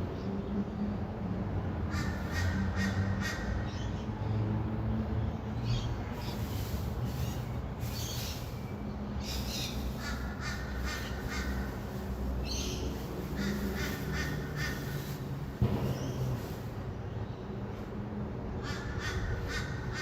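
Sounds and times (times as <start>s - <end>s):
distant city traffic rumble: 0.0s - 20.0s.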